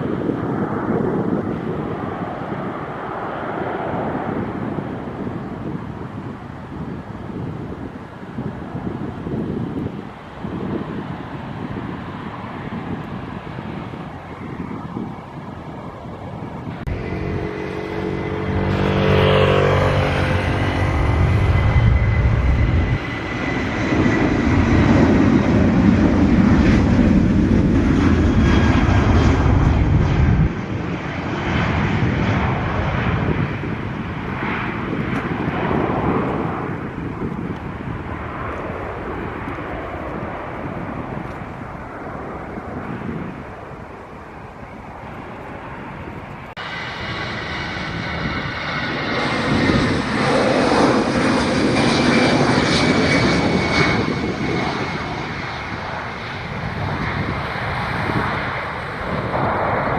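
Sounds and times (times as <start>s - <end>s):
jet airliner passing: 0.0s - 59.9s.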